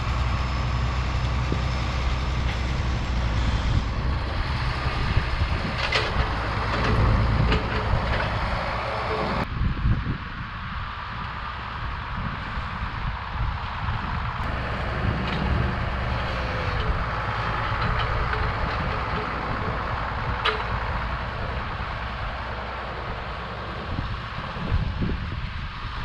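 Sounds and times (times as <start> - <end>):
tractor engine rumbling: 0.0 - 9.5, 11.5 - 26.0.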